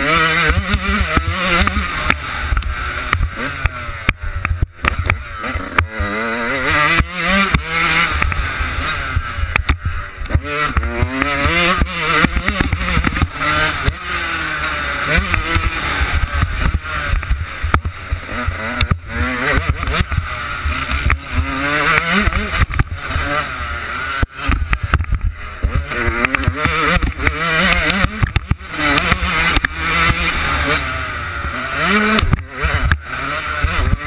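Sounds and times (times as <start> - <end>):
two-stroke engine revving: 0.0 - 34.0.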